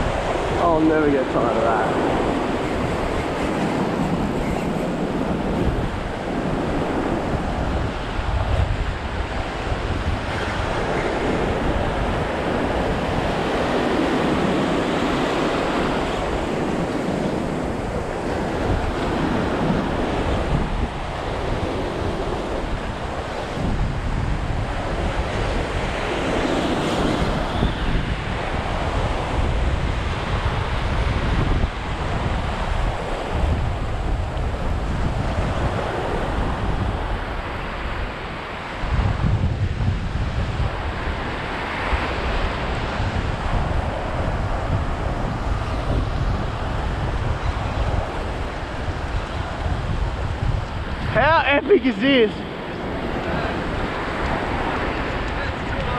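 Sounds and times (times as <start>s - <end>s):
small surf waves breaking: 0.0s - 55.9s
wind buffeting microphone: 0.0s - 55.9s.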